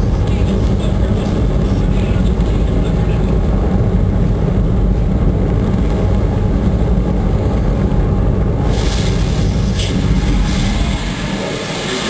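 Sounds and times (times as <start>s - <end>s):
rocket engines roaring: 0.0s - 12.0s.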